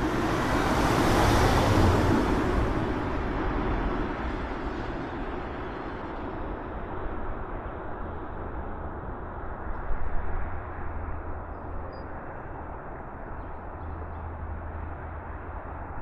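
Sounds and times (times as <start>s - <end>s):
rumbling wind on microphone: 0.0s - 16.0s.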